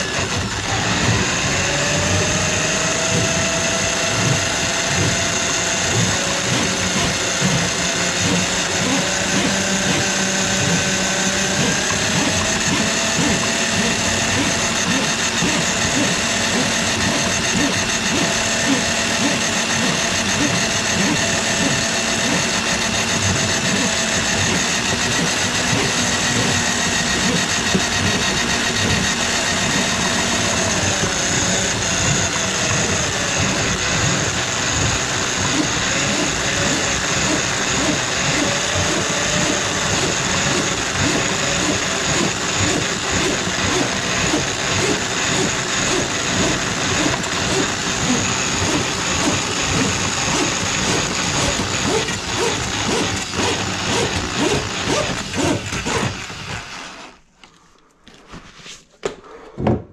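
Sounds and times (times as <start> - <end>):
electric drain auger running: 0.0 - 57.2.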